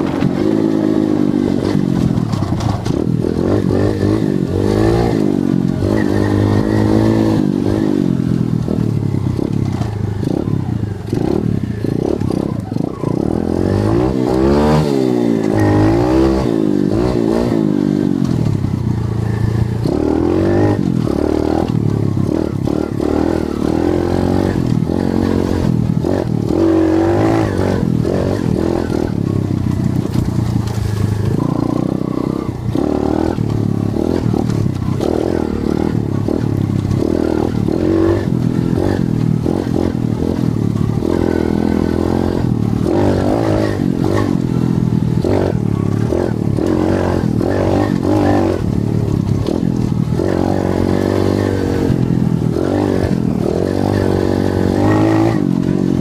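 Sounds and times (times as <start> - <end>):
bike rattle: 0.0 - 13.3, 18.0 - 56.0
dirt bike engine revving: 0.0 - 56.0.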